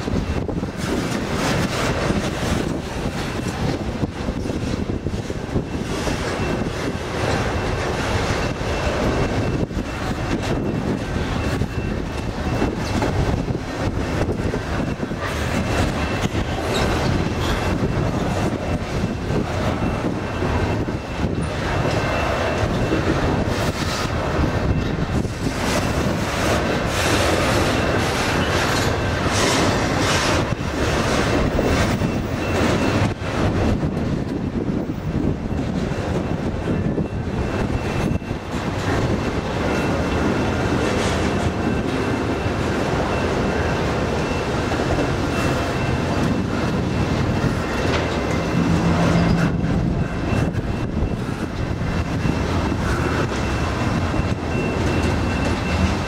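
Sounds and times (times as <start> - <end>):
steel wheels rumbling on rails: 0.0 - 56.0.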